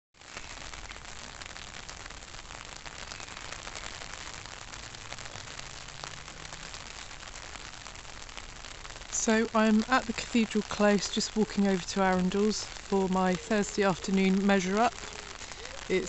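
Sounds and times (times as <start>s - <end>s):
rain on an umbrella: 0.2s - 16.0s.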